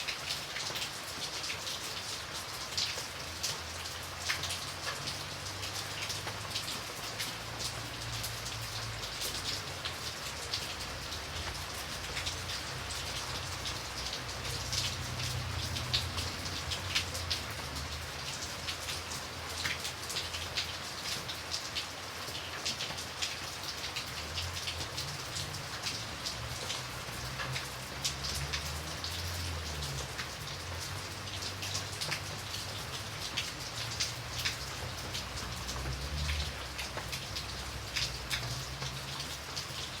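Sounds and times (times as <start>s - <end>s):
raindrops ticking on surface: 0.0s - 40.0s.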